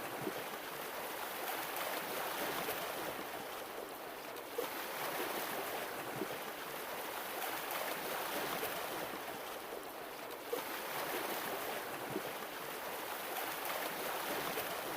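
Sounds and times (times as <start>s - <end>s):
ocean water lapping: 0.0s - 14.9s
small water splashes: 0.0s - 14.9s.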